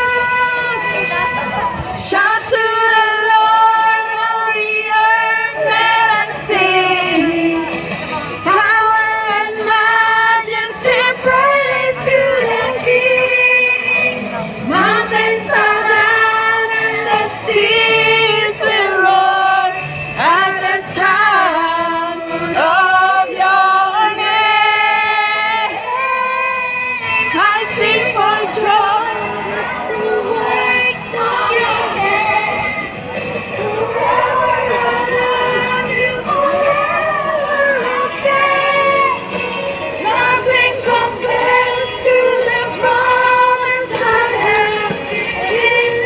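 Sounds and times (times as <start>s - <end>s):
women singing praise song: 2.0s - 7.7s, 8.4s - 46.0s.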